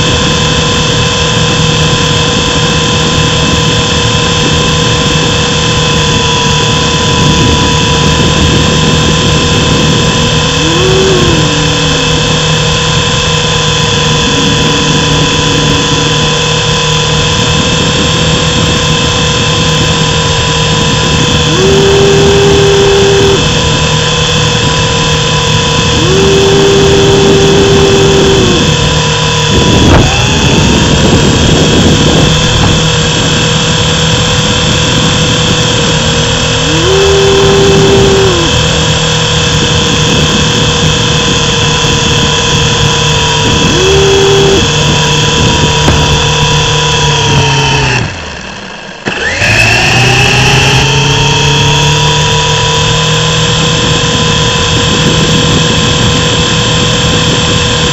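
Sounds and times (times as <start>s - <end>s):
lower tone cutting in and out: 0.0s - 56.7s
rc helicopter rotors whining: 0.0s - 57.9s.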